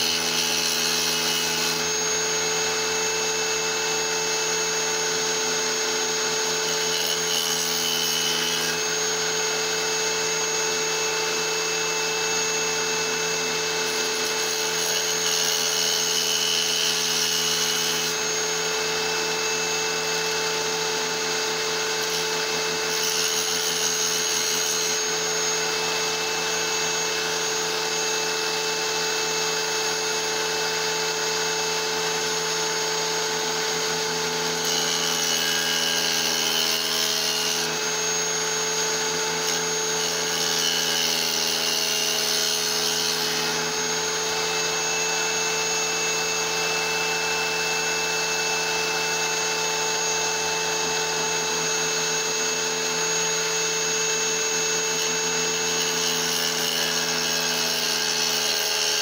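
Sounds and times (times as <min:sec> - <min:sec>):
tile saw grinding through stone: 0:00.0 - 0:59.0.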